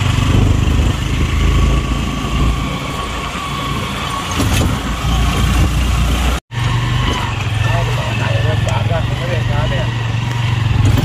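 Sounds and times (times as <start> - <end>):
vehicle engine and road drone: 0.0 - 11.0.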